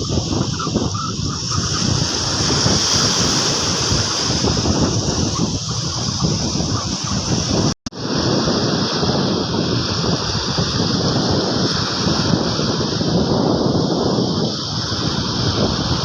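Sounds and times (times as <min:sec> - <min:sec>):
surf washing on a beach: 0:00.0 - 0:16.0
wind buffeting microphone: 0:00.0 - 0:16.0.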